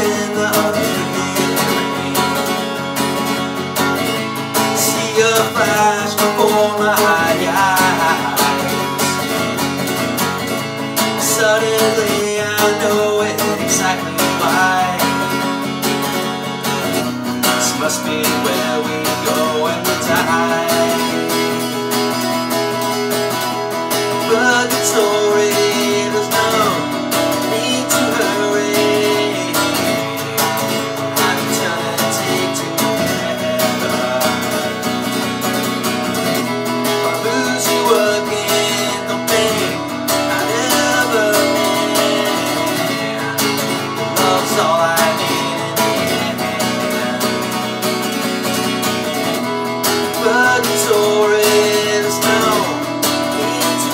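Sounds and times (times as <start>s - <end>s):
acoustic guitar strumming: 0.0s - 53.9s
man singing: 0.0s - 53.9s.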